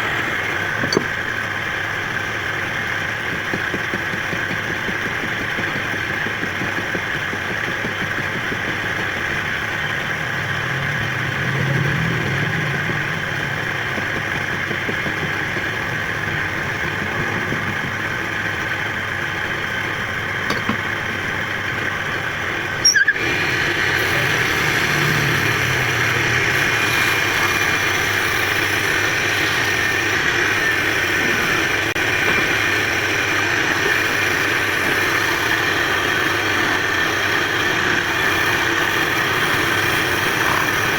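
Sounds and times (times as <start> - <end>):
lathe motor running: 0.0 - 40.9.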